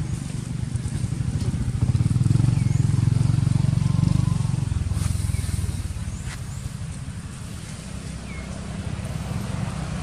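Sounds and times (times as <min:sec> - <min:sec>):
engine pulsing rumble: 0:00.0 - 0:10.0.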